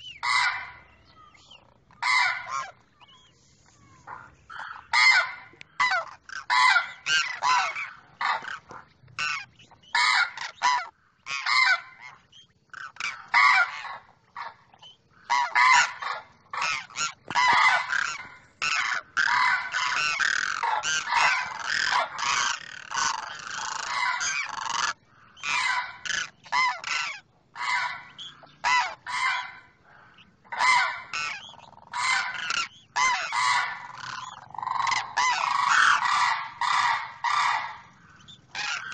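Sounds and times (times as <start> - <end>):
cranes calling: 0.0 - 38.9.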